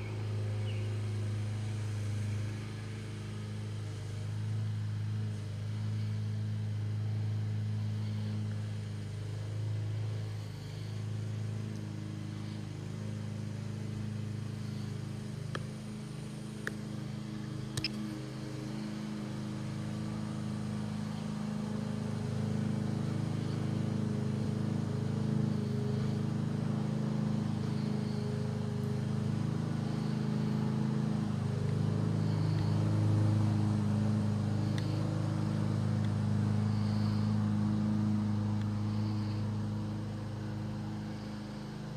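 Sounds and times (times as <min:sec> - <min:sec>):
drone propellers humming: 0:00.0 - 0:41.9.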